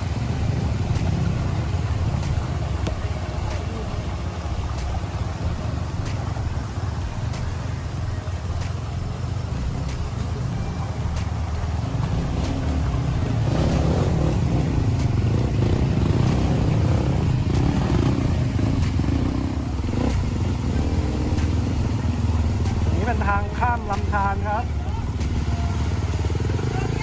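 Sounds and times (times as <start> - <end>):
dirt bike engine rumbling: 0.0 - 27.0.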